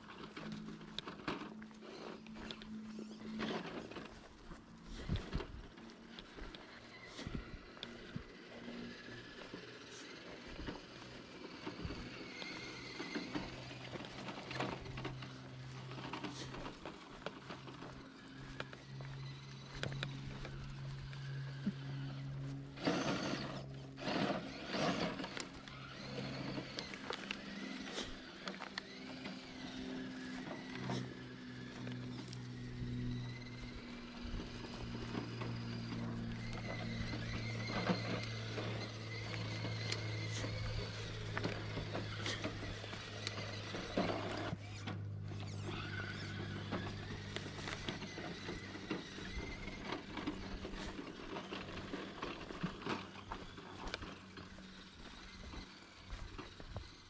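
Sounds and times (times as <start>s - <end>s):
small electric motor humming: 0.0s - 57.0s
stones and gravel crunching: 0.0s - 57.0s.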